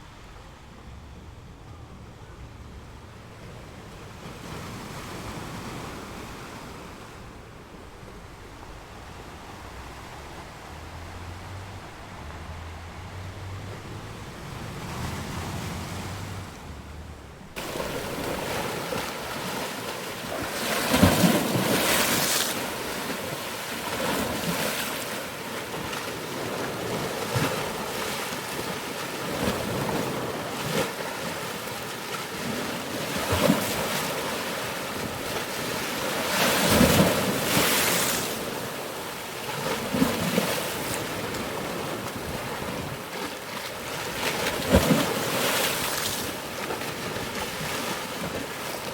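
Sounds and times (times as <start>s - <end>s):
big waves breaking: 0.0s - 48.9s
ocean waves washing: 2.4s - 48.9s.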